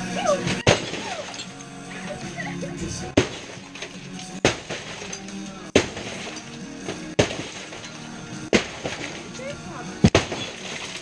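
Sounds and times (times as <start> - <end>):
background music: 0.0 - 11.0
heavy blows smashing television: 0.4 - 1.6, 3.0 - 11.0
glass and plastic cracking: 0.4 - 11.0.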